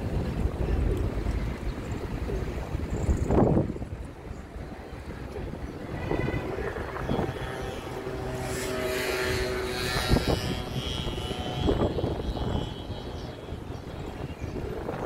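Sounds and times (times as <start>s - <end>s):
distant engine drone with whine: 0.0s - 15.0s
wind gusts on microphone: 0.0s - 15.0s.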